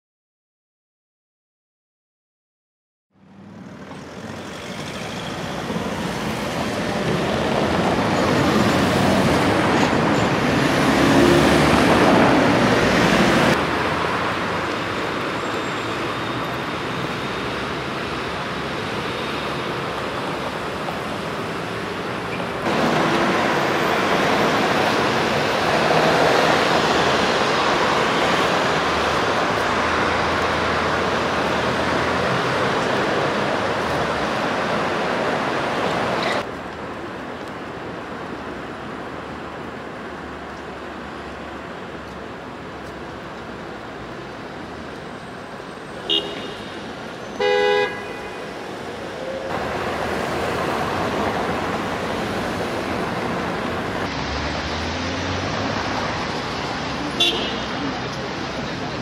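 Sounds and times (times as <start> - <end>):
cars and buses passing: 3.1 - 59.0.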